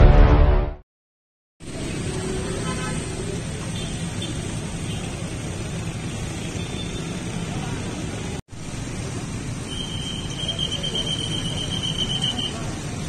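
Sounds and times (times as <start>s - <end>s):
street traffic: 1.6s - 13.0s.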